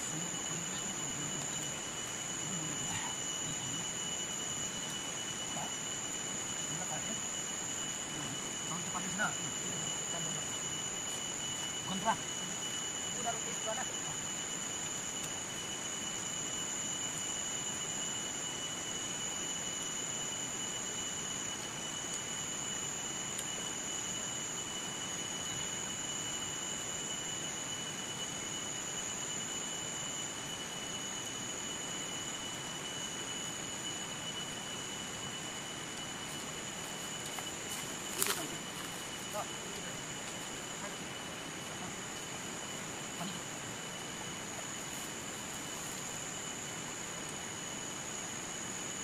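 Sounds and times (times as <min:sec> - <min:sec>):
background hiss: 0:00.0 - 0:49.0
insects droning: 0:00.0 - 0:49.0.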